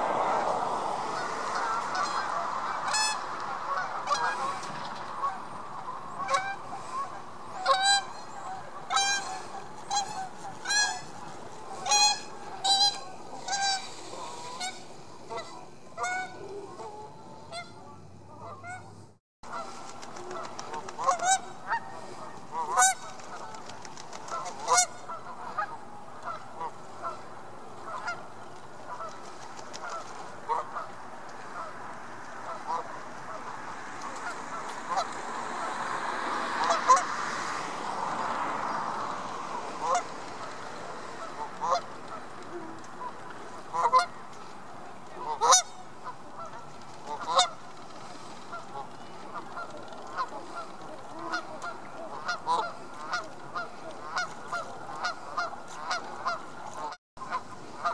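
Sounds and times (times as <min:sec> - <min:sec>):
geese honking: 0:00.0 - 0:57.9.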